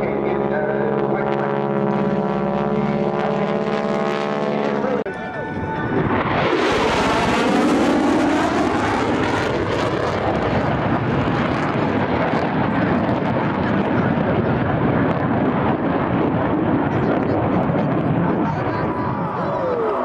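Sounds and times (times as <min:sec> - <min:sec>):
fighter jet passing overhead: 0:00.0 - 0:20.0.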